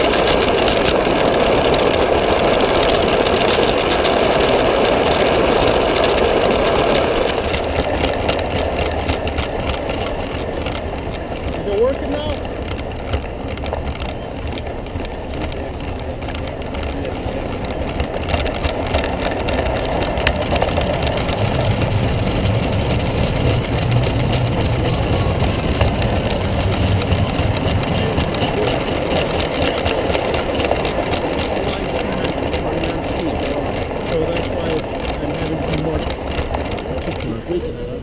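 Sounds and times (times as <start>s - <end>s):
model train wheels rattling: 0.0s - 38.0s.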